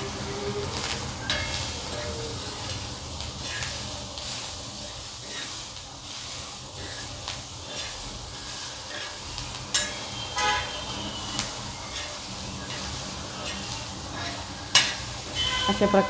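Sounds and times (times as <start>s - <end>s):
food sizzling in oil: 0.0s - 16.0s
spatula scraping a pan: 0.7s - 16.0s.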